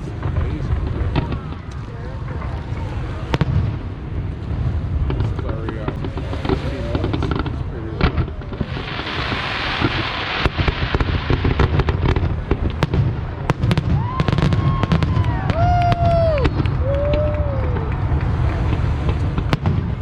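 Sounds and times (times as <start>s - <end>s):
fireworks crackling pops and bangs: 0.0s - 20.0s
hissing crackle: 0.0s - 20.0s.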